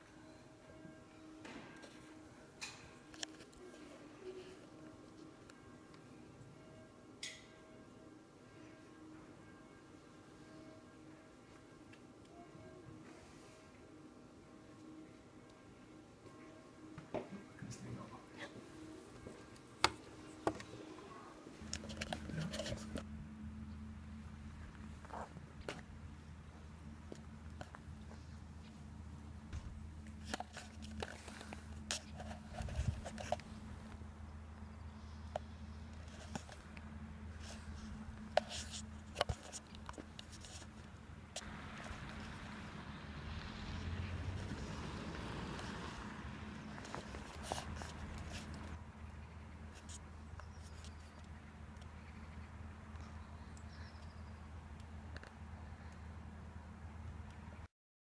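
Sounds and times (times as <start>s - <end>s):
steady low hum: 0.0s - 57.7s.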